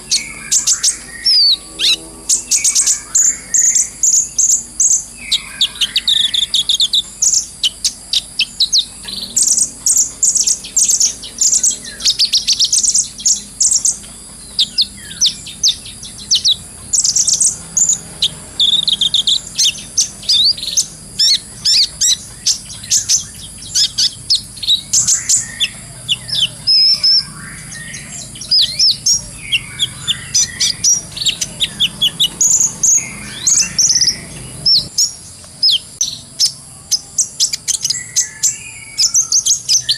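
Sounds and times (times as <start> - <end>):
sunbird chirping and trilling: 0.0 - 39.9.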